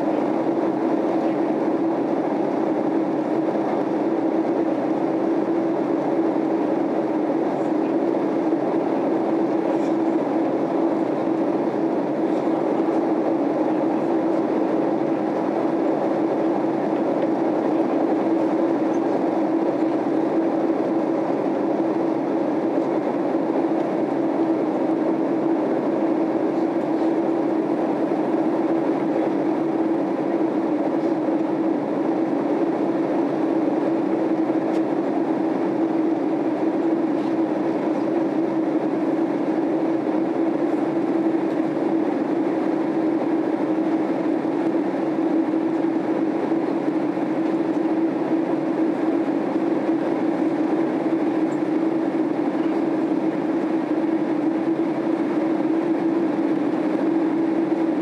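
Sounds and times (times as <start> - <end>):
airliner cabin jet engine drone: 0.0 - 58.0.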